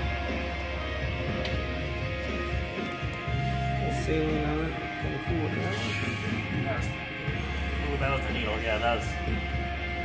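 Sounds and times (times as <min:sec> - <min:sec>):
song with guitar and bass: 0:00.0 - 0:10.0.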